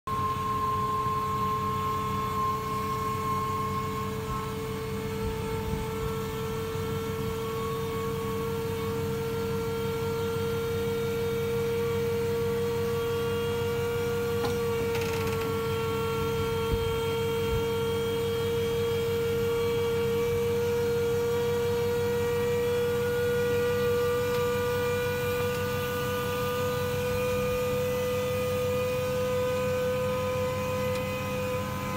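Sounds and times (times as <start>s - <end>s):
electric motor whining: 0.2s - 31.9s.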